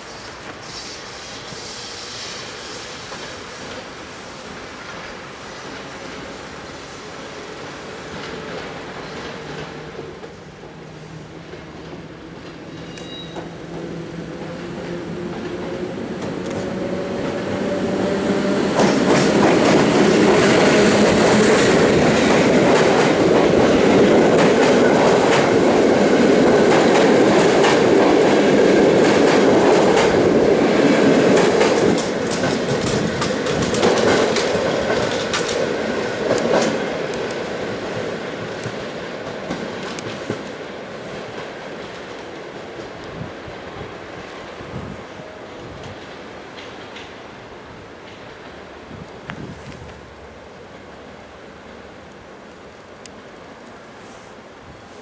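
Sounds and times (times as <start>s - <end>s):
train rolling roar: 0.0s - 55.0s.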